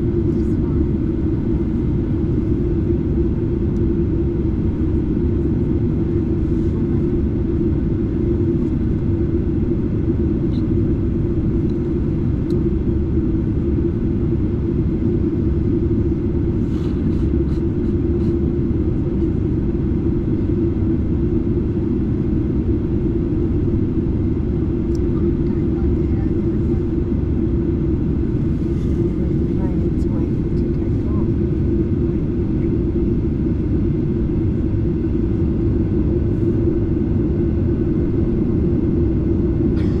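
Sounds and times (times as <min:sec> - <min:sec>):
airplane cabin engine drone: 0:00.0 - 0:40.0.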